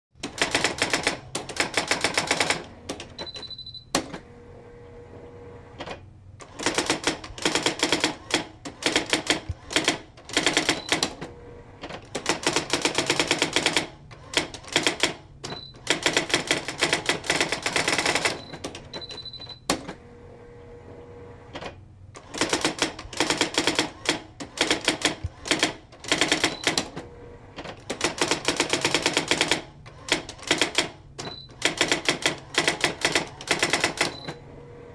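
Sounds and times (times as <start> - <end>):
typewriter keystrokes: 0.2 - 4.2, 5.9 - 11.2, 11.9 - 19.9, 21.6 - 27.0, 27.6 - 34.4.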